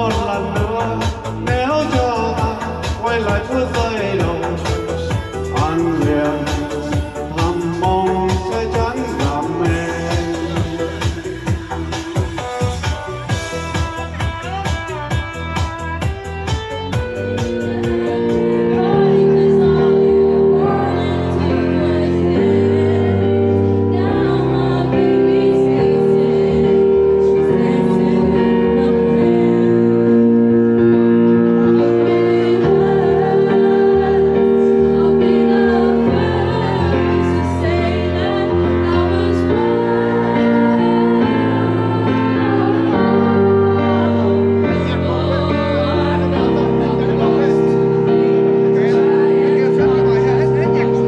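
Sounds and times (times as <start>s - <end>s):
person singing: 0.0s - 51.0s
song with held chords: 0.0s - 51.0s.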